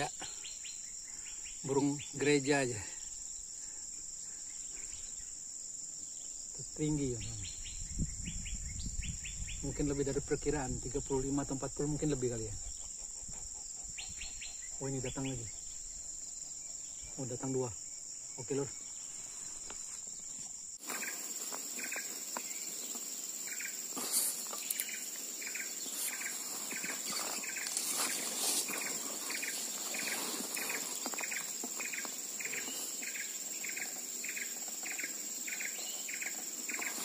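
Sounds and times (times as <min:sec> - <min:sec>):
high-pitched insect drone: 0:06.3 - 0:37.0.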